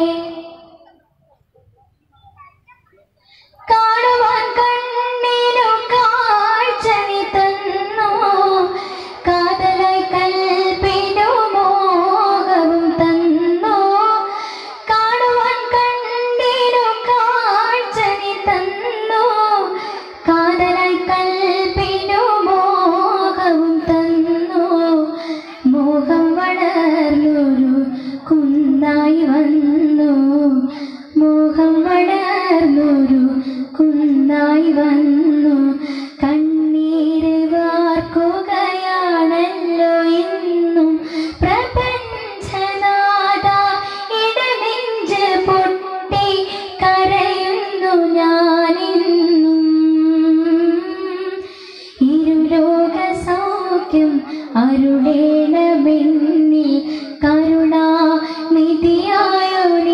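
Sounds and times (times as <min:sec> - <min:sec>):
child singing: 0:00.0 - 0:01.0, 0:02.1 - 0:03.0, 0:03.6 - 0:51.4, 0:52.0 - 0:59.9.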